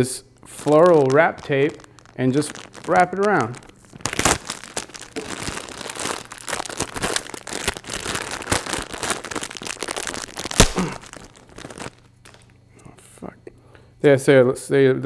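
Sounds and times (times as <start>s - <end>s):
floral tape crinkling: 0.0s - 12.6s
tape snapping: 0.4s - 12.5s.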